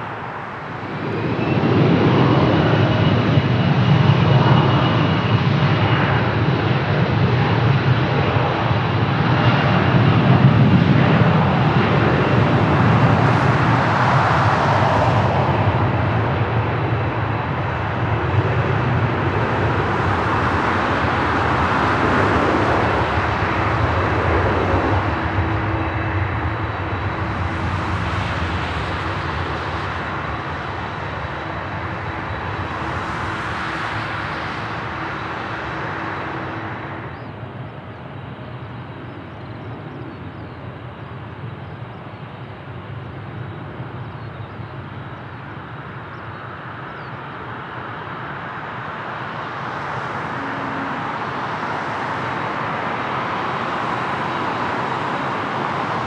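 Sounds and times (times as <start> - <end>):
jet engine noise: 0.0 - 56.0.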